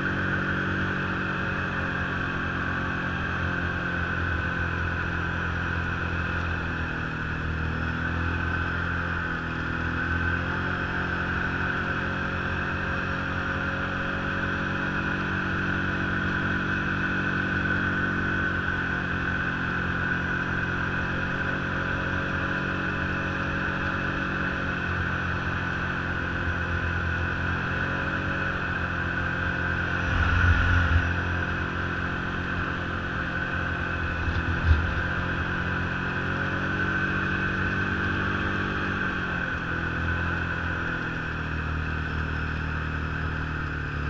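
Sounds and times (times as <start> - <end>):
snow vehicle engine running: 0.0 - 44.0.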